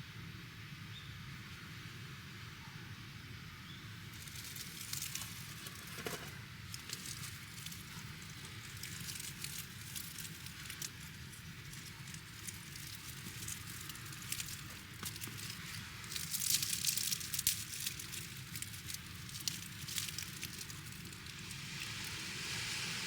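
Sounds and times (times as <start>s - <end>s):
campfire crackling: 4.0s - 23.0s.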